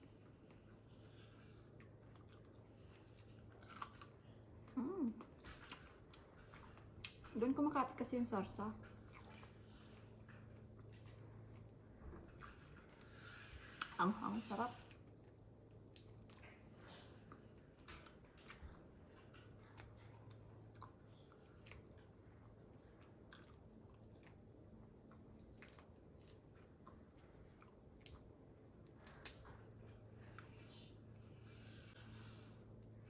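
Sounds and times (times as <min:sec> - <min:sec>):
faint chewing: 0:00.0 - 0:33.0.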